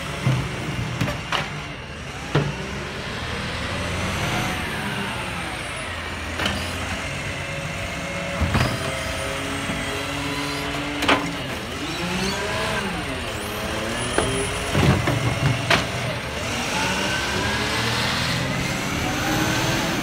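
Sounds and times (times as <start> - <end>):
garbage truck diesel engine: 0.0 - 20.0.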